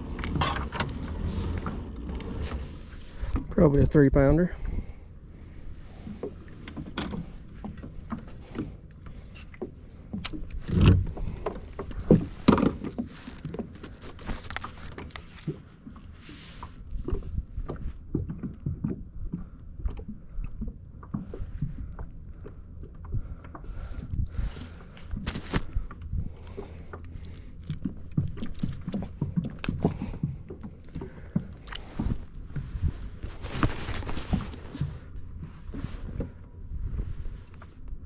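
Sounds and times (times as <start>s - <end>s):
knocks and rattles on a kayak: 0.0s - 37.8s.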